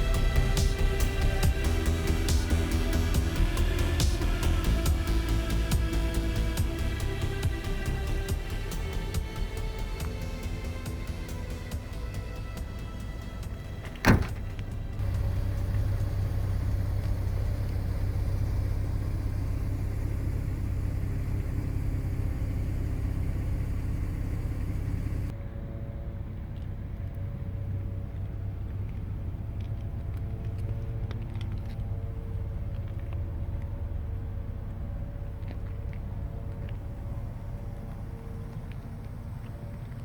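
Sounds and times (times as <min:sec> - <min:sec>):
car engine low rumble: 0:00.0 - 0:40.0
steady hum: 0:00.0 - 0:40.0.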